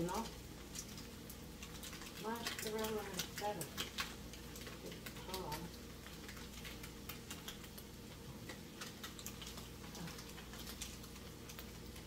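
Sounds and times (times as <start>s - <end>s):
food popping and crackling in pan: 0.0s - 12.0s.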